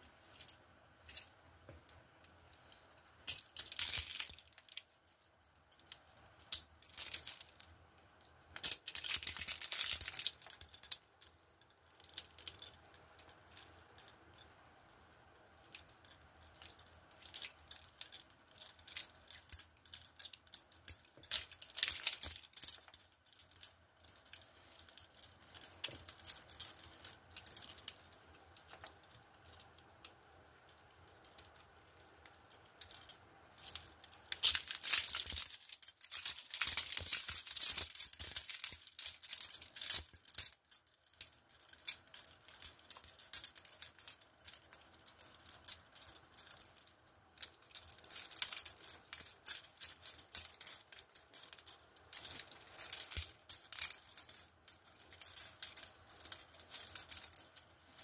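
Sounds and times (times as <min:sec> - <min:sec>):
handcuff chains clinking: 0:03.2 - 0:05.2, 0:08.5 - 0:14.5, 0:15.7 - 0:29.8, 0:30.7 - 0:58.0.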